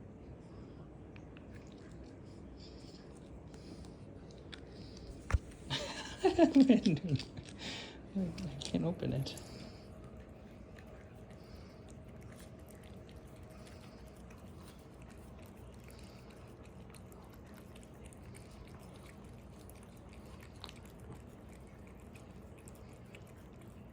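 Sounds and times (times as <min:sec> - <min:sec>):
cats chewing treats: 0:01.2 - 0:23.9.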